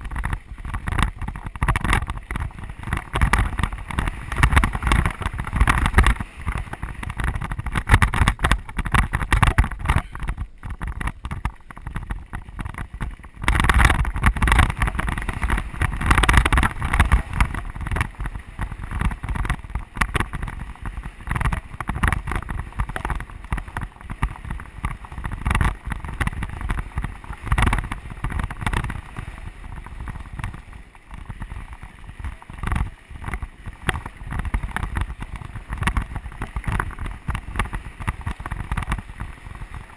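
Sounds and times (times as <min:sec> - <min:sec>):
bike rattle and clatter: 0:00.0 - 0:39.9
wind buffeting microphone: 0:00.0 - 0:39.9.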